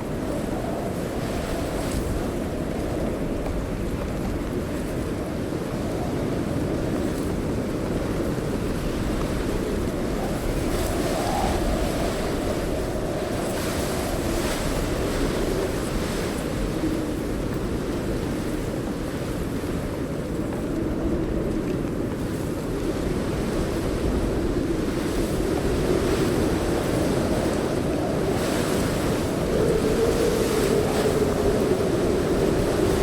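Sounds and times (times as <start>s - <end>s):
wind rushing rumble: 0.0s - 33.0s.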